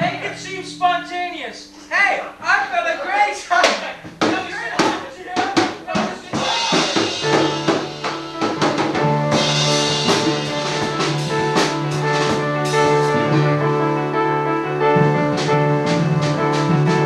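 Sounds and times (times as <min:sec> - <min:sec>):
bass notes: 0:00.0 - 0:01.7, 0:03.8 - 0:17.0
drum kit: 0:00.0 - 0:17.0
keyboard notes: 0:00.0 - 0:17.0.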